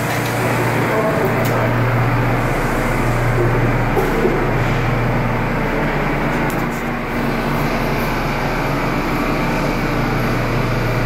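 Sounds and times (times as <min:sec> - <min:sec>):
subway train equipment humming: 0:00.0 - 0:11.0.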